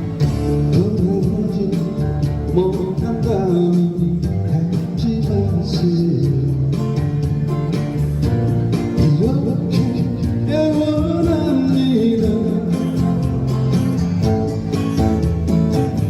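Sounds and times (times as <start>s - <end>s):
live band with guitar and bass: 0.0s - 16.0s.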